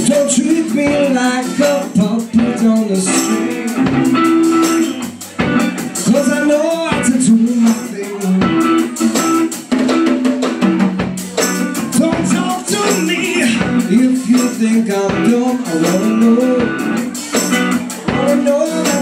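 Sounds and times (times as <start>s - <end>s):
man singing: 0.0s - 9.4s, 11.7s - 19.0s
drums beating: 0.0s - 19.0s
electric guitar: 0.0s - 19.0s.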